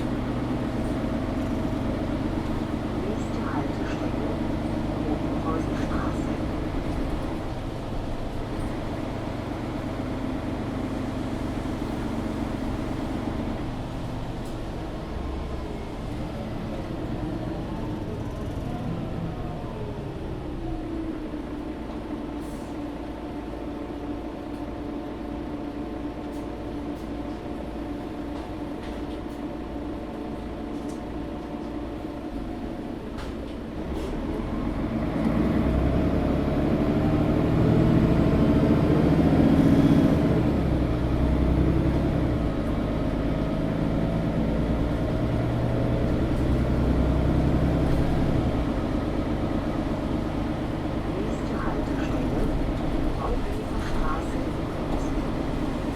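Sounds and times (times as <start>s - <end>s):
bus engine from inside cabin: 0.0s - 55.9s.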